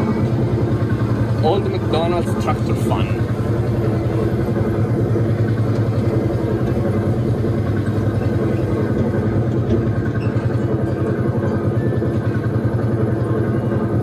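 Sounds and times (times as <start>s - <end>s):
ride tractor engine running: 0.0s - 14.0s.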